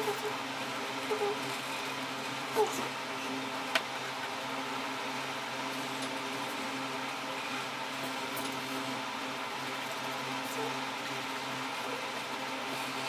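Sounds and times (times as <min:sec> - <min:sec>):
room noise hum and hiss: 0:00.0 - 0:13.0.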